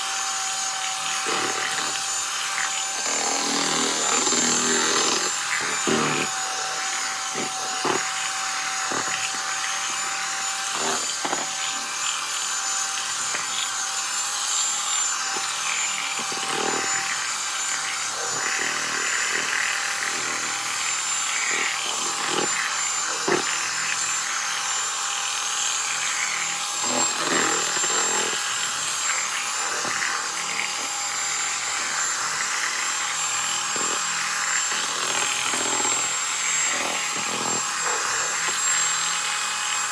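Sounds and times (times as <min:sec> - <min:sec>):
electric hand mixer whining: 0:00.0 - 0:39.9.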